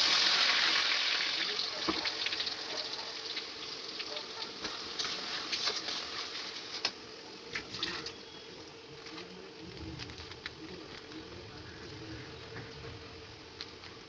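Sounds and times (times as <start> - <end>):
food sizzling in hot oil: 0.0 - 14.0
oil popping and crackling: 0.0 - 14.0.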